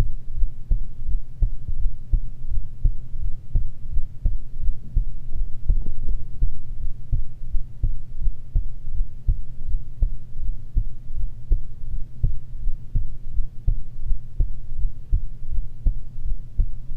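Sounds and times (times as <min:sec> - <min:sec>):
heartbeat thumps: 0:00.0 - 0:16.9
steady low hum: 0:00.0 - 0:16.9.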